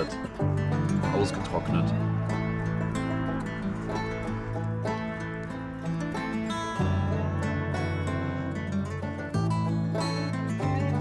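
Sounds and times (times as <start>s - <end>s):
acoustic guitar tune: 0.0s - 11.0s
steady bass: 0.0s - 11.0s.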